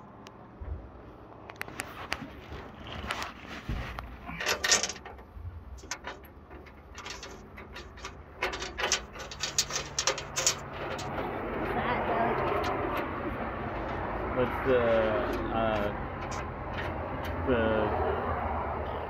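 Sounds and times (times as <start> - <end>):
metal scraping and rattling: 1.6 - 17.5.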